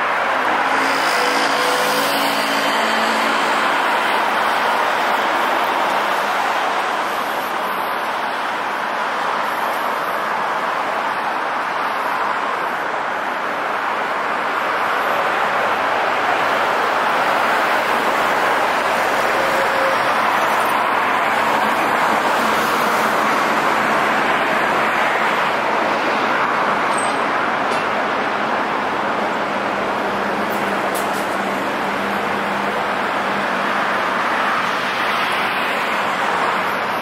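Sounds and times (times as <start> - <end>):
traffic hiss on wet streets: 0.0 - 37.0.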